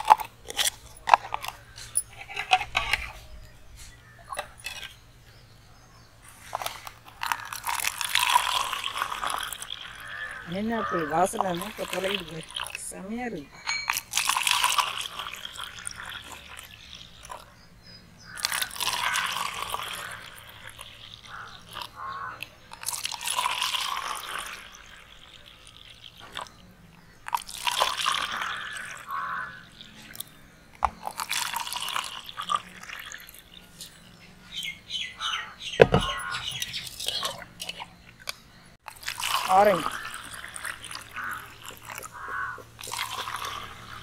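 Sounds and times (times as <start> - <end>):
drink pouring into plastic cups: 0.0 - 5.1, 6.3 - 13.3, 13.9 - 17.6, 18.2 - 34.9, 35.8 - 44.0.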